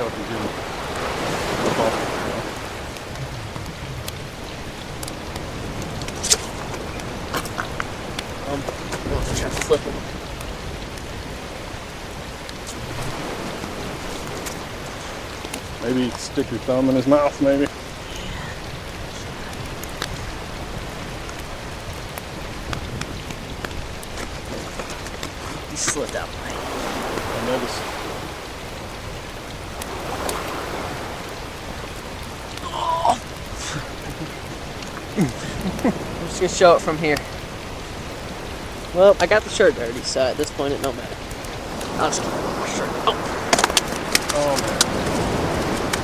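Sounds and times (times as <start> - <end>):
sharp water splashes: 0.0 - 46.0
small drips: 0.0 - 46.0
water washing: 0.0 - 46.0.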